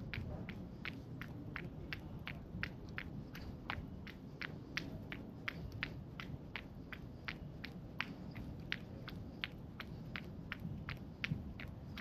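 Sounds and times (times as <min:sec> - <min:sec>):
running footsteps: 0:00.0 - 0:12.0.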